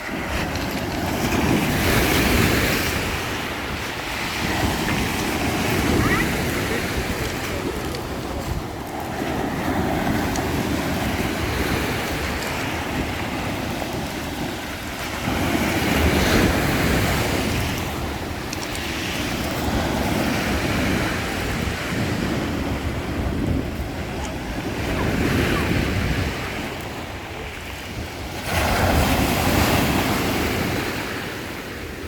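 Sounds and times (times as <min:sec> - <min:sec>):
waves breaking on shore: 0:00.0 - 0:32.0
wind buffeting microphone: 0:00.0 - 0:32.0.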